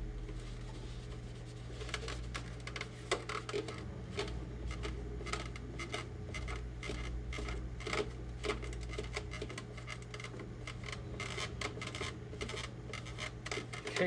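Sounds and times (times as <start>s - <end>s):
steady low hum: 0.0s - 14.0s
cloth rubbing on plastic: 0.2s - 14.0s.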